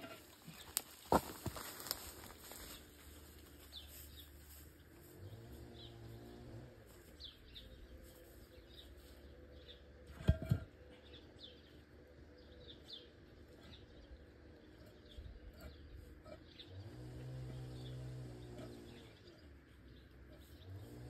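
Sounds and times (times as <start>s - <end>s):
small birds chirping: 0.4s - 21.0s.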